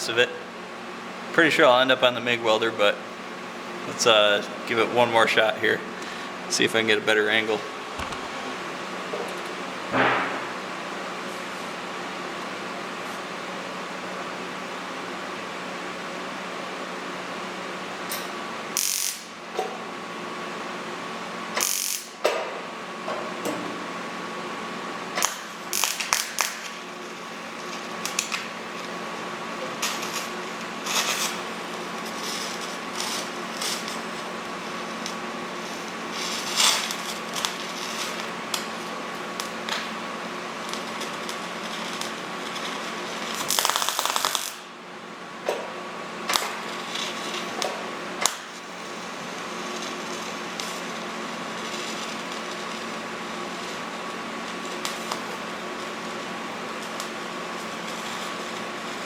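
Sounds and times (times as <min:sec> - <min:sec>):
welding arc humming and crackling: 0:00.0 - 0:59.0.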